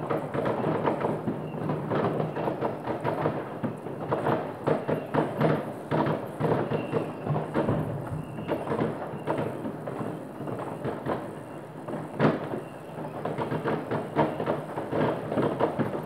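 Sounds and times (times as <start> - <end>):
fireworks bangs and crackles: 0.0 - 16.0
loud firework bang: 0.0 - 16.0.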